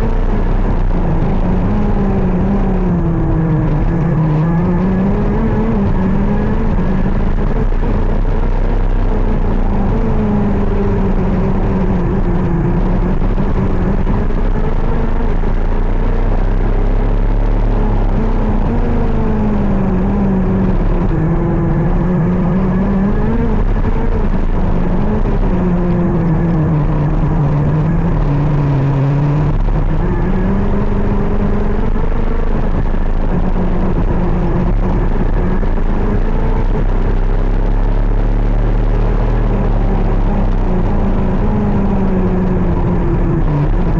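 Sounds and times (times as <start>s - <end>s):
kart engine running: 0.0s - 43.9s.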